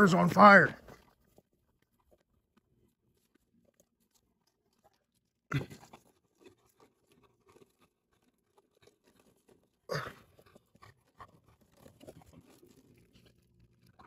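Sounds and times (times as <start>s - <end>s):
crunching on gravel: 0.0s - 14.0s.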